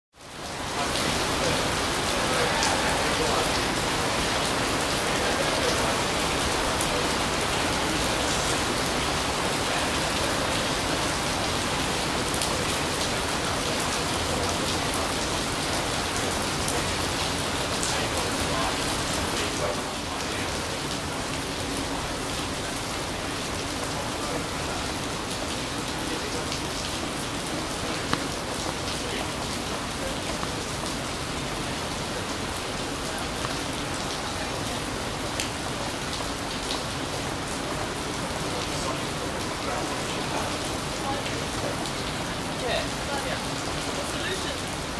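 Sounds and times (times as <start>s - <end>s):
rain on decking and pavement: 0.1s - 44.9s.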